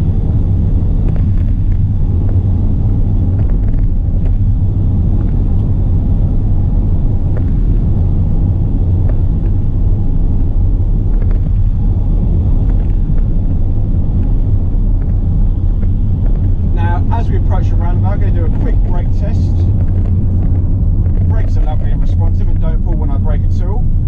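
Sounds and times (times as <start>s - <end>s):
diesel engine running: 0.0s - 24.0s
road and tyre noise: 0.0s - 24.0s.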